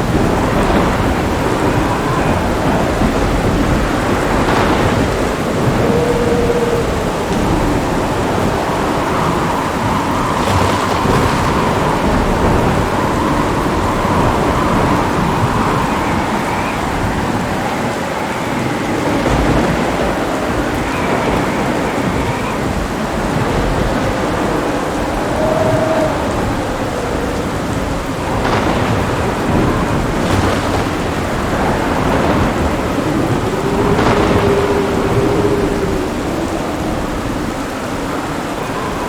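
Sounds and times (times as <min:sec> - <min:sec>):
heavy rain falling: 0:00.0 - 0:39.0
low rumbling thunder: 0:00.0 - 0:39.0.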